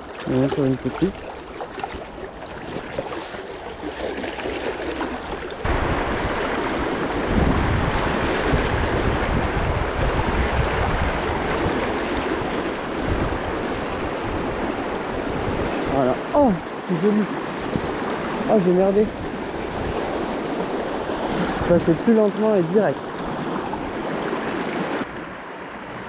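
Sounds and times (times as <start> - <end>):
wind rumbling on microphone: 0.0 - 16.8, 17.4 - 22.1.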